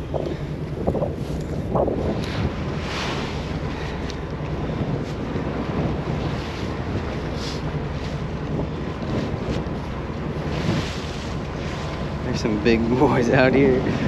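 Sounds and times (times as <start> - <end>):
steady low hum: 0.0 - 14.0
wind on microphone: 0.0 - 14.0.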